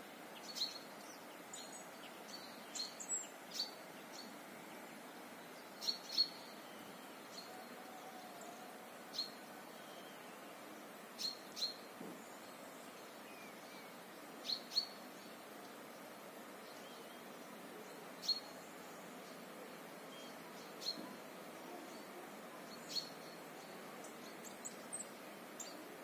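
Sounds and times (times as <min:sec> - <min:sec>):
birds chirping: 0:00.0 - 0:26.0
faint steady hiss: 0:00.0 - 0:26.0.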